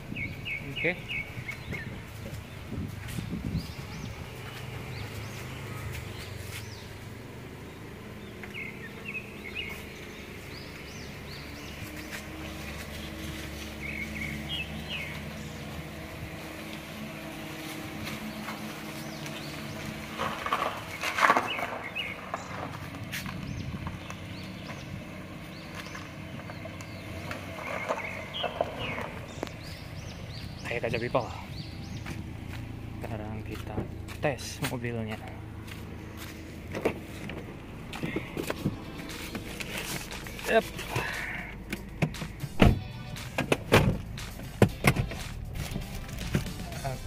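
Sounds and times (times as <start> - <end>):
birds chirping: 0.0 - 47.0
car engine running low: 0.0 - 47.0.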